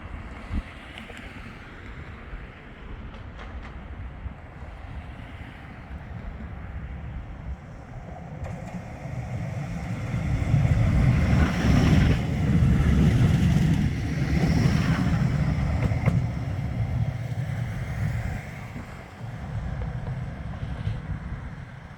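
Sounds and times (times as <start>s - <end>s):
tram rumbling past: 2.1s - 21.9s.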